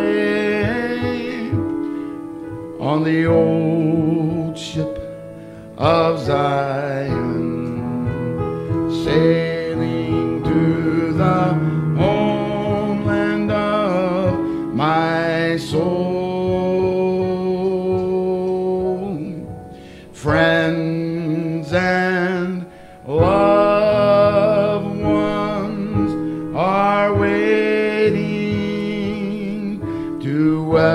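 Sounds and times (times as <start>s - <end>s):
man singing gospel: 0.0s - 30.9s
piano: 0.0s - 30.9s.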